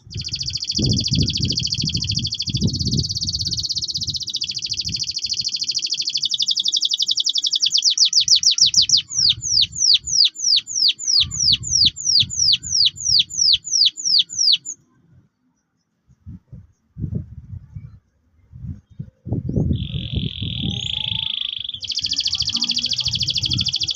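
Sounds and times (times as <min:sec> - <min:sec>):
canary singing trills: 0:00.0 - 0:14.8, 0:19.5 - 0:23.9.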